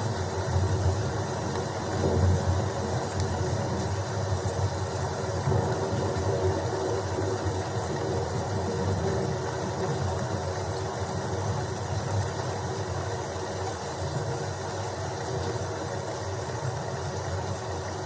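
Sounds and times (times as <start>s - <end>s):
continuous low rumble: 0.0s - 18.0s
steady rain: 0.0s - 18.0s.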